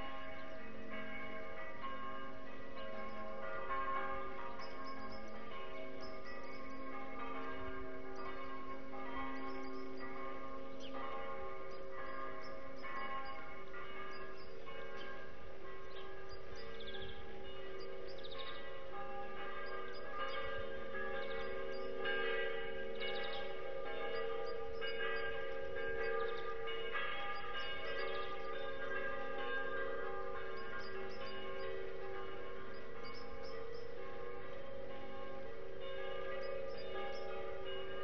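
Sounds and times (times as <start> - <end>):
church bells ringing: 0.0 - 38.0.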